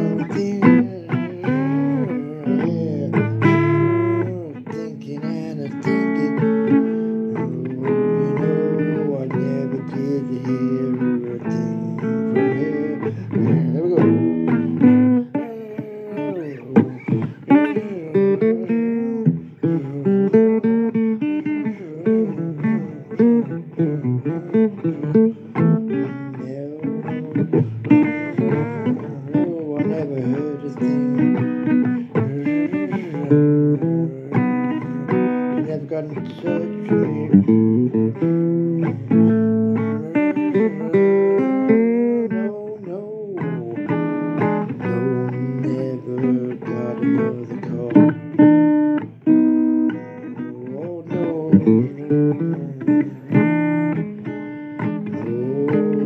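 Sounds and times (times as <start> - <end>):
blues guitar playing: 0.0 - 56.0.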